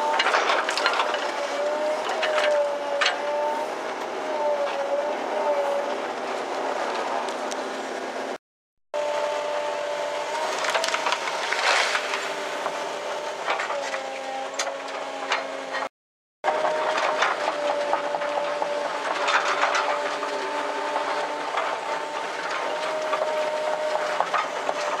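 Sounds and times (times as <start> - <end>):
excavator engine and hydraulic whine: 0.0 - 8.4, 9.0 - 25.0.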